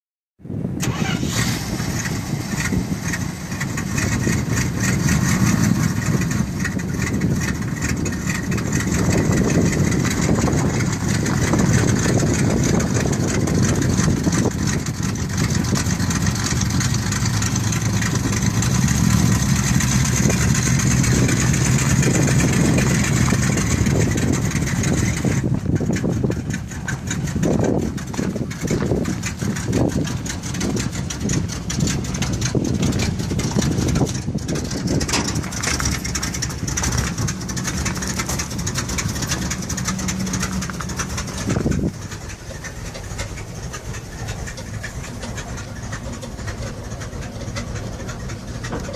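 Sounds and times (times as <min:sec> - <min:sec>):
pickup truck engine idling: 0:00.6 - 0:48.9.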